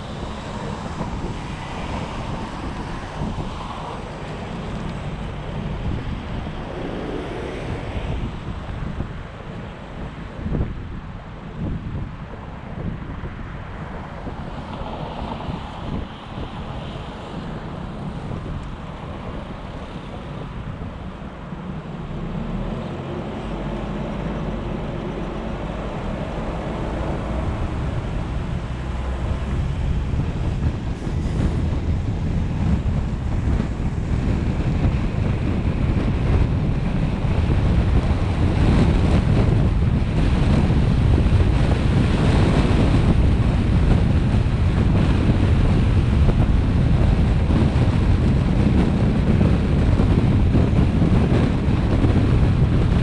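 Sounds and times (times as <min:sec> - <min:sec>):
car road noise: 0:00.0 - 0:53.0
wind buffeting microphone: 0:00.0 - 0:53.0.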